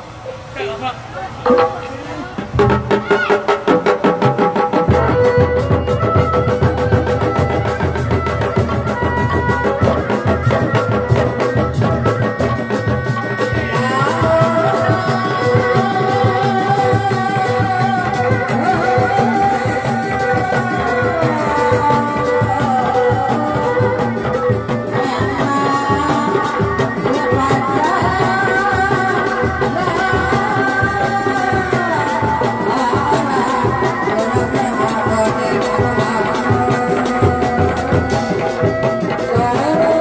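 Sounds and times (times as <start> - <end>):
wavering gliding melody: 0.0 - 2.6, 4.9 - 40.0
drums beaten in dense rhythm: 0.2 - 40.0.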